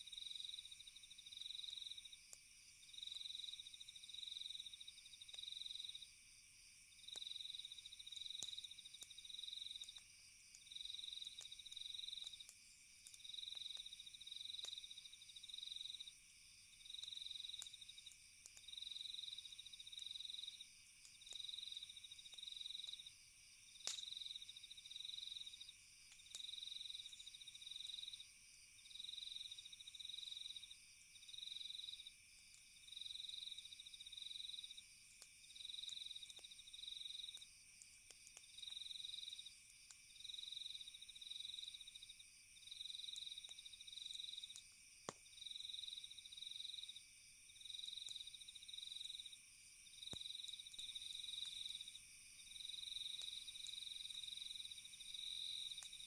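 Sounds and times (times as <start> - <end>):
campfire crackling: 0.0 - 56.0
crickets trilling: 0.0 - 56.0
pulsing cricket chirp: 0.0 - 56.0.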